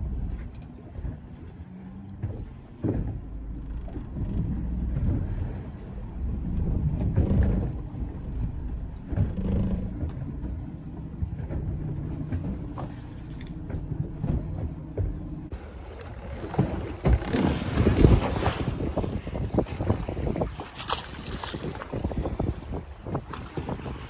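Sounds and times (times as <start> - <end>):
boat motor running: 0.0 - 24.0
water splashing against boat: 0.0 - 24.0
wind on microphone: 0.0 - 24.0.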